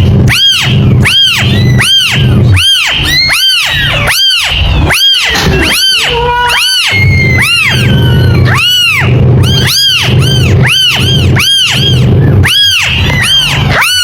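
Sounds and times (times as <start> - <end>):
kitten meowing: 0.0 - 14.0
low hum: 0.0 - 14.0.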